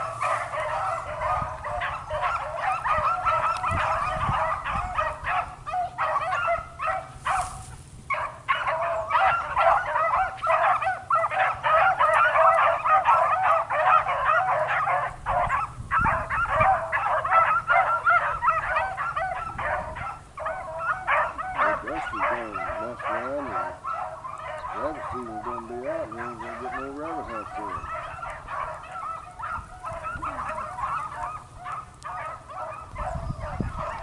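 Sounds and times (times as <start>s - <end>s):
beagles baying: 0.0s - 34.0s.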